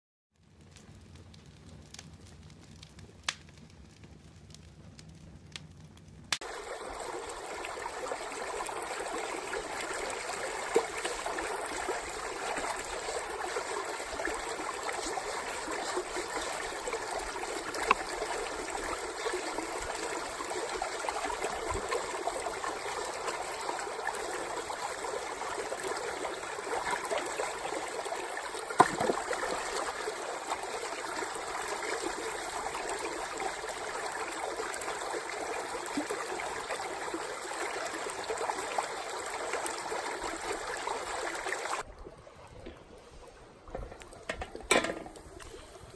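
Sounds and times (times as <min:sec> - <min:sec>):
stream of flowing water: 0:06.4 - 0:45.9.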